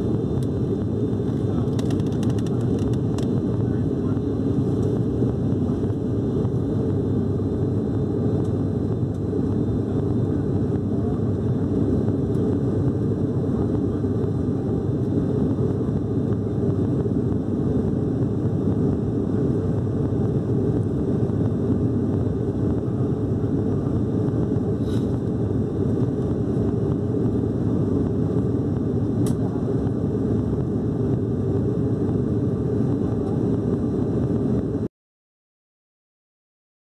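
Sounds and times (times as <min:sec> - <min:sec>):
airplane cabin engine drone: 0:00.0 - 0:34.9.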